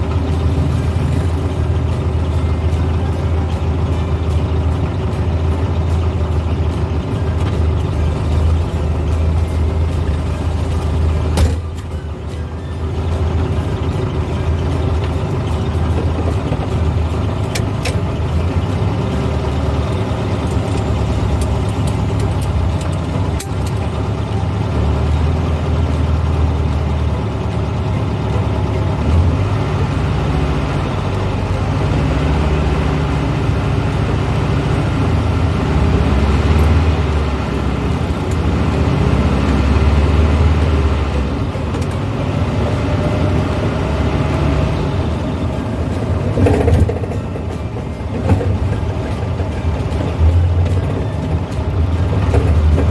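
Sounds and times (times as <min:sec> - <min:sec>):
car engine revving: 0:00.0 - 0:52.9
road noise: 0:00.0 - 0:52.9.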